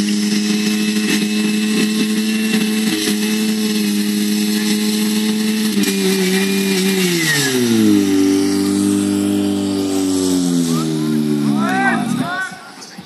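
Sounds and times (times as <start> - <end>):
pump engine running at high revs: 0.0 - 12.5.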